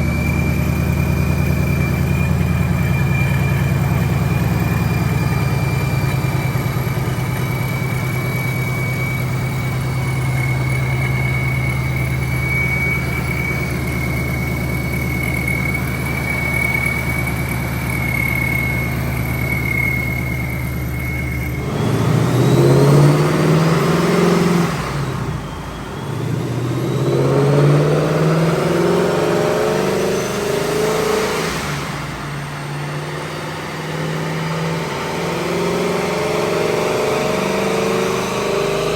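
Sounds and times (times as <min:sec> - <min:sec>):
supercharged car engine revving: 0:00.0 - 0:38.9.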